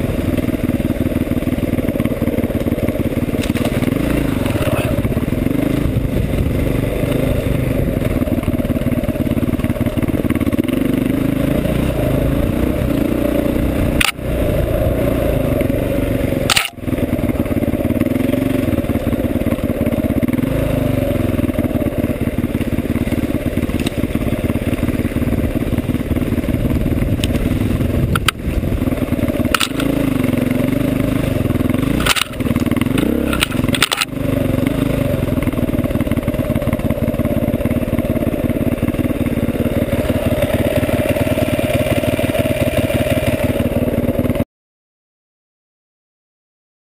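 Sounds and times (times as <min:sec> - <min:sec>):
motorcycle engine running: 0:00.0 - 0:44.5.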